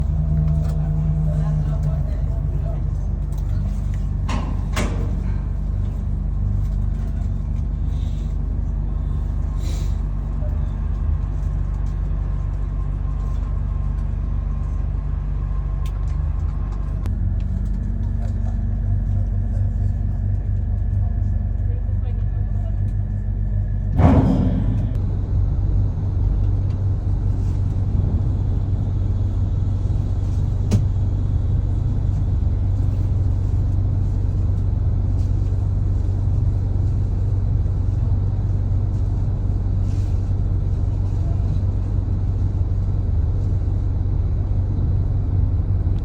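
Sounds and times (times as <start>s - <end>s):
ship engines rumbling: 0.0s - 45.8s.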